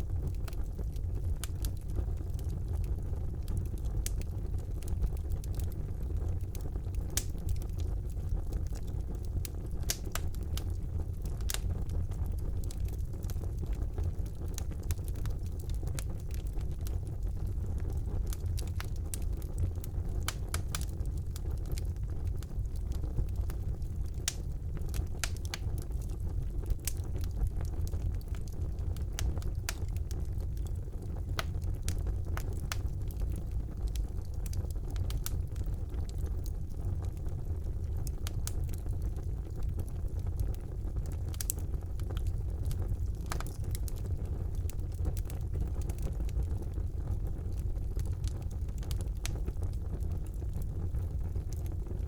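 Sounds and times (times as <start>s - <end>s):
fire crackling in a fireplace: 0.0s - 52.0s.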